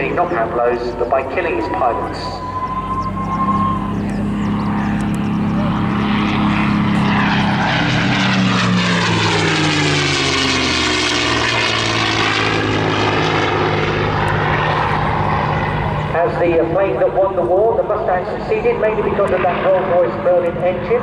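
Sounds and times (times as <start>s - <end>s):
propeller aircraft engine flying past: 0.0s - 21.0s.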